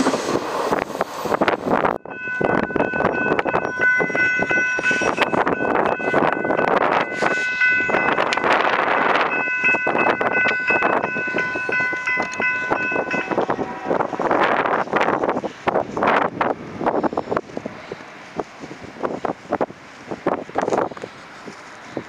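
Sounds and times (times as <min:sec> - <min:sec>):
train and wind rushing: 0:00.0 - 0:22.0.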